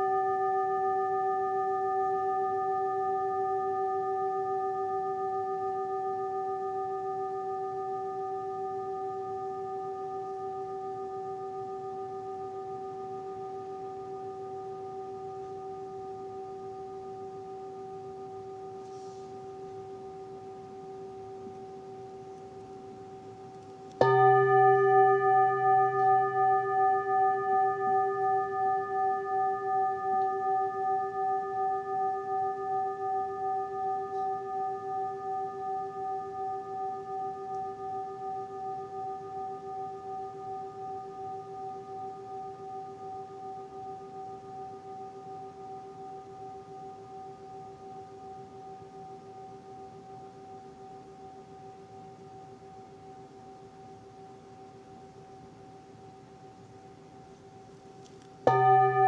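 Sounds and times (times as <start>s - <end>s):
singing bowl ringing: 0.0s - 57.8s, 58.4s - 59.0s.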